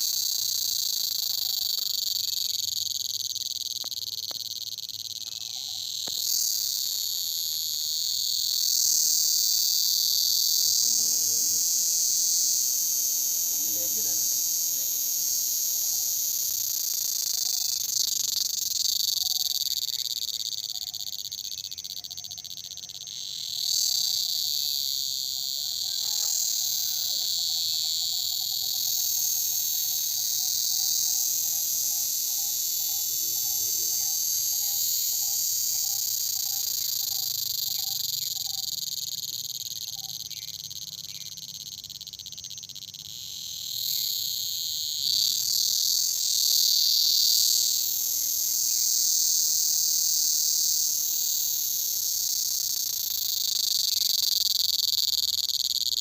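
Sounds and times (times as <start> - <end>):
crickets shrilling: 0.0 - 56.0.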